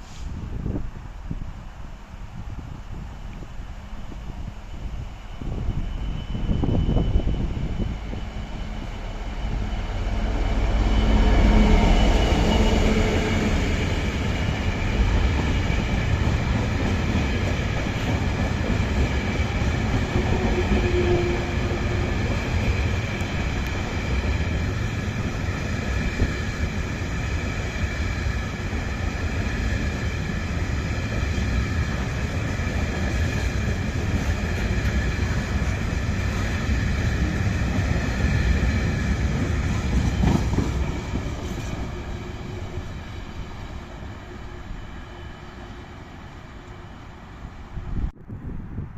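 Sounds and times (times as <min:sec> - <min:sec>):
train passing: 0:00.0 - 0:48.9.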